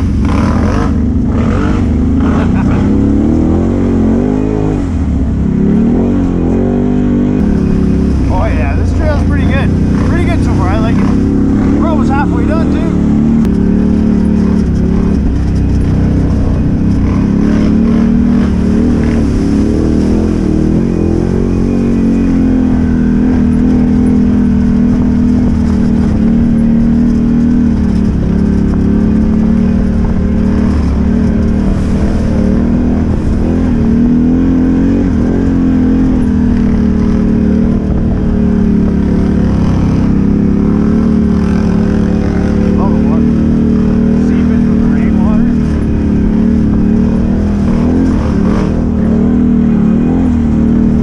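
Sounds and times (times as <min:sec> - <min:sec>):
off-road vehicle engine running: 0:00.0 - 0:51.0.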